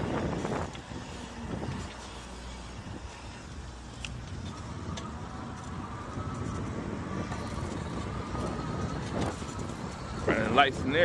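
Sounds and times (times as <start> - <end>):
faint thin motor whine: 0.0 - 11.0
wind and tyre noise: 0.0 - 11.0.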